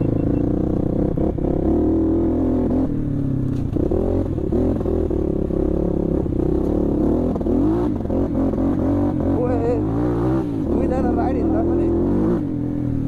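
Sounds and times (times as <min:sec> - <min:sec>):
dirt bike engine revving: 0:00.0 - 0:12.7.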